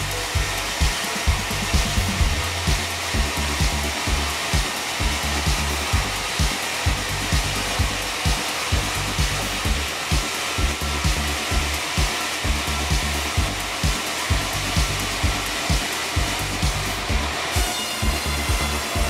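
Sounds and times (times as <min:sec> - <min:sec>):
background music with low thumps: 0:00.0 - 0:19.0
band saw running: 0:00.0 - 0:19.0.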